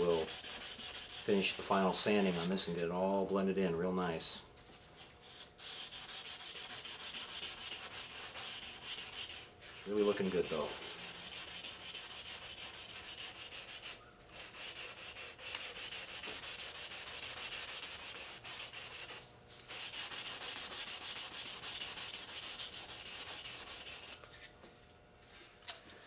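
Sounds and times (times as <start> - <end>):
sandpaper rubbing on plastic: 0.0 - 2.7, 5.4 - 24.5.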